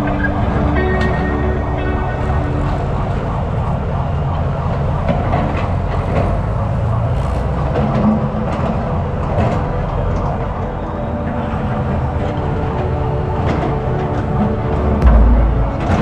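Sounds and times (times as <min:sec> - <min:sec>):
heavy machinery rumbling: 0:00.0 - 0:16.0.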